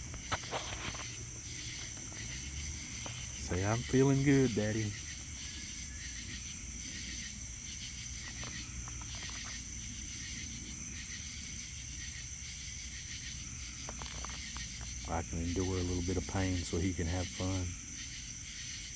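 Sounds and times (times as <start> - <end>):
insects chirping: 0.0 - 18.9.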